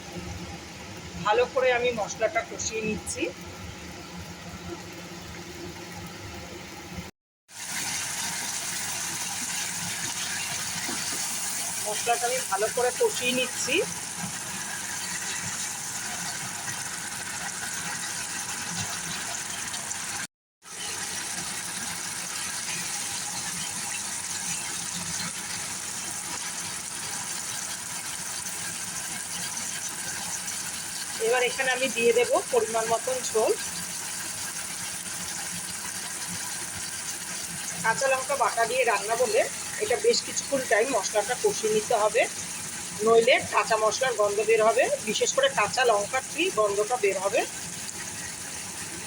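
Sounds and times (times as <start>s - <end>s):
paste sizzling in hot oil: 7.5s - 49.0s.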